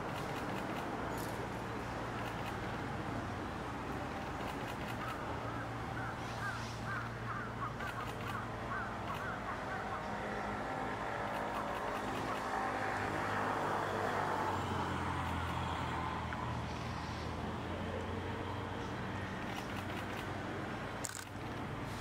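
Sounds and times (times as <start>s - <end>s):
traffic rumble: 0.0s - 22.0s
vehicle passing: 0.0s - 22.0s.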